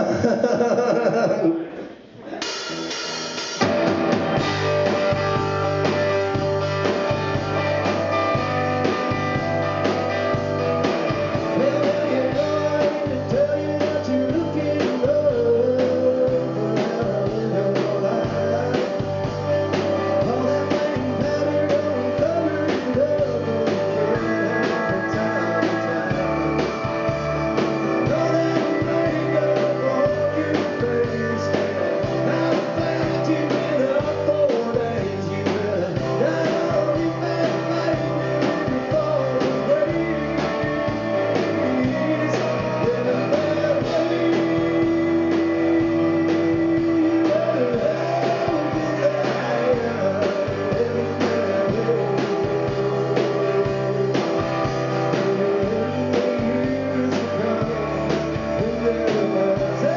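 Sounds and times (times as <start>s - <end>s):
person singing: 0.0s - 2.7s, 3.8s - 59.9s
live rock band playing: 2.3s - 59.9s.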